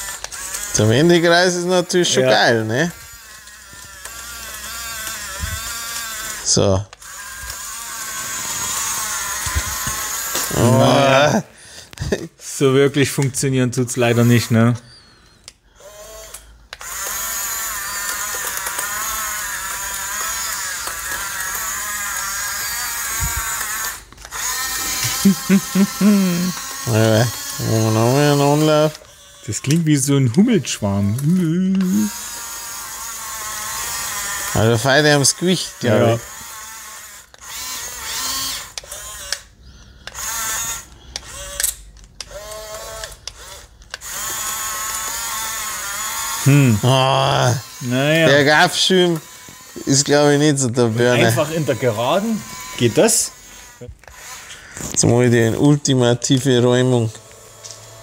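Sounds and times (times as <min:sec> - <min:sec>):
toy bulldozer motors whining: 0:00.0 - 0:58.0.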